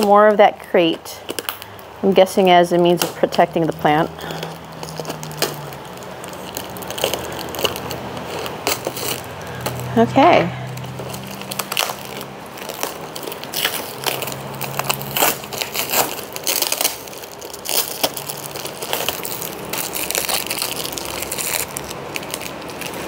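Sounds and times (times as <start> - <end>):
packing material crackling: 0.0 - 23.0.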